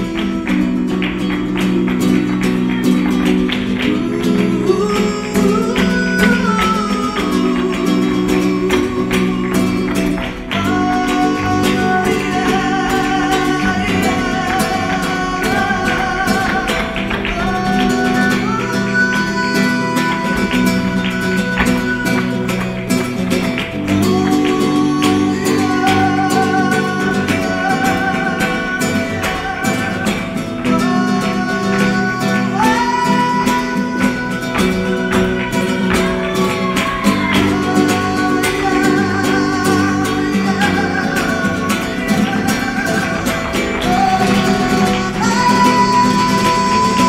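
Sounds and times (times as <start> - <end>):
guitar: 0.0 - 47.0
person singing: 0.0 - 47.0.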